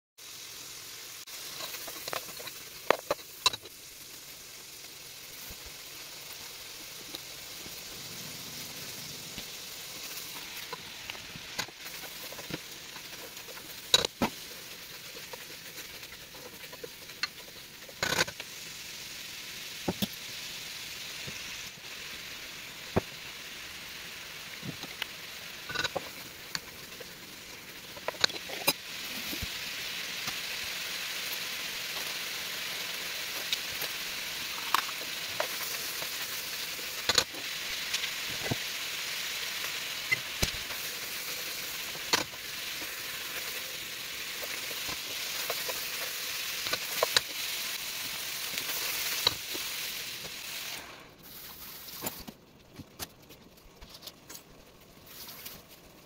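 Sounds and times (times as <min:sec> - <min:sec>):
food sizzling in a pot: 0:00.2 - 0:56.0.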